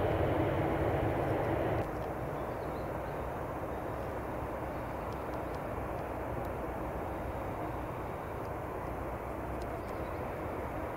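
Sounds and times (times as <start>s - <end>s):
distant jet engine rumble: 0.0s - 10.9s.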